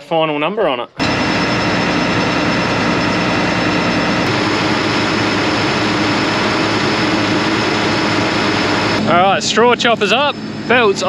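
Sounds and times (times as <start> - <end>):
combine harvester droning: 1.0 - 11.0.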